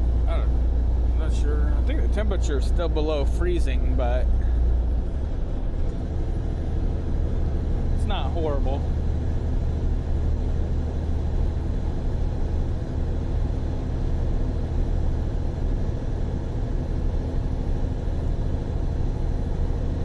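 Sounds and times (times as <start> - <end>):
diesel truck engine droning: 0.0 - 20.0
road noise: 0.0 - 20.0.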